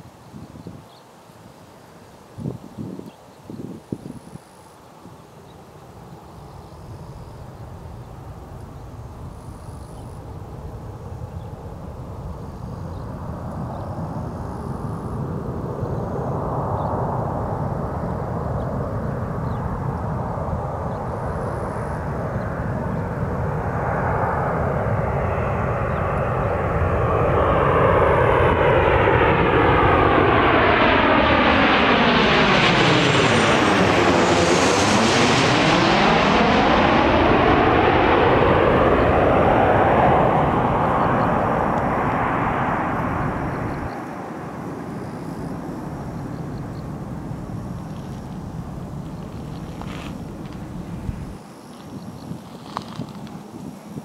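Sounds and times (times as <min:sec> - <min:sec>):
jet engines roaring: 0:07.6 - 0:51.4.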